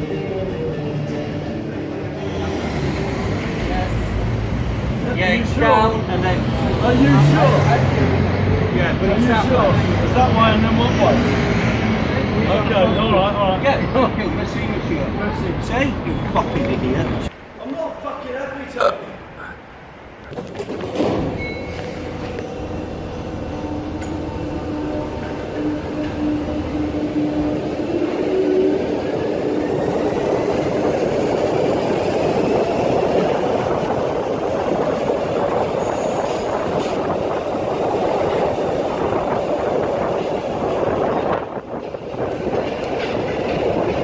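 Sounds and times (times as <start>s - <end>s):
train rumble: 0.0s - 18.0s, 19.7s - 44.0s.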